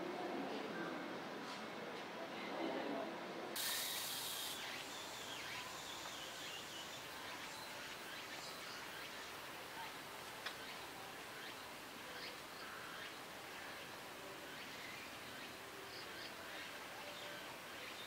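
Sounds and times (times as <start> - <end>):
faint crowd chatter: 0.0 - 18.0.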